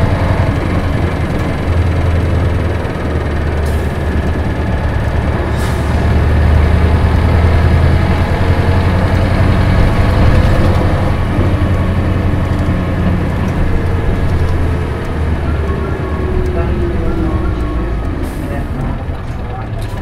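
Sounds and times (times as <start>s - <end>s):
bus diesel engine drone: 0.0s - 20.0s.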